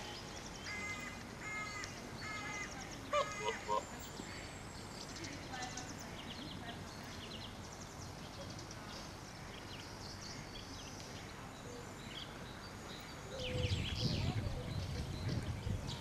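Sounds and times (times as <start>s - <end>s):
small birds chirping: 0.0s - 16.0s
steady background hiss: 0.0s - 16.0s.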